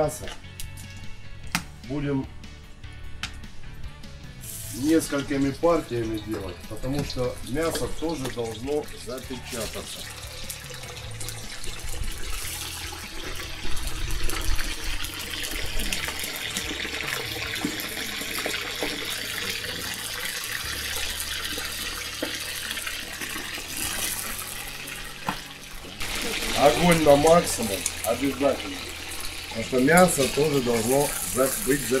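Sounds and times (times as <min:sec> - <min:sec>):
meat sizzling in hot oil: 0:04.3 - 0:32.0.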